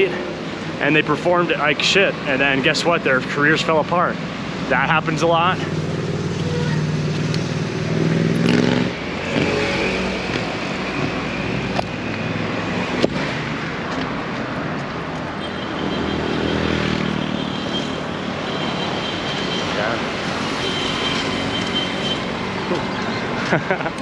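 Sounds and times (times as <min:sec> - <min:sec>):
vehicles passing close by: 0:00.0 - 0:24.0.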